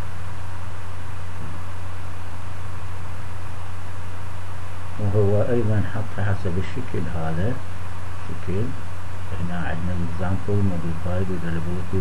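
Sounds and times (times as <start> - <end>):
even hiss: 0.0 - 12.0
steady low hum: 0.0 - 12.0.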